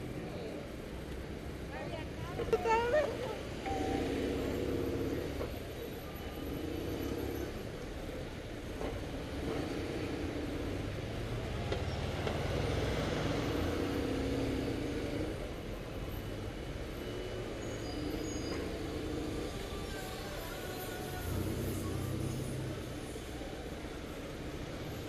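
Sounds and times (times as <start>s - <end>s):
low traffic rumble: 0.0s - 25.0s.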